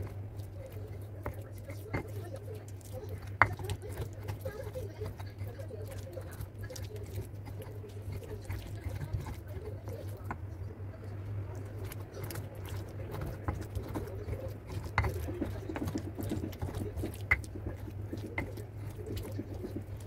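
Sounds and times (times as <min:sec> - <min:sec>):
pestle mashing wet paste: 0:00.0 - 0:20.0.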